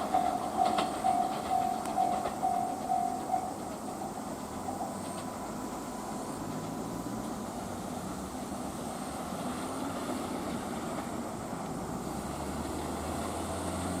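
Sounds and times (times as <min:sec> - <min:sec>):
train engine drone: 0:00.0 - 0:14.0.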